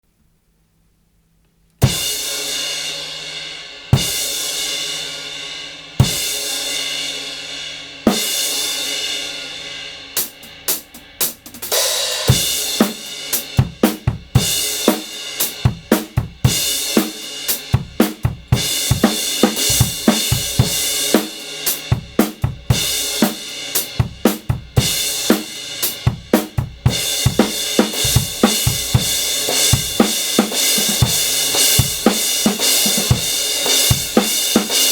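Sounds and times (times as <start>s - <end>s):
drum kit beat: 1.8s - 34.9s.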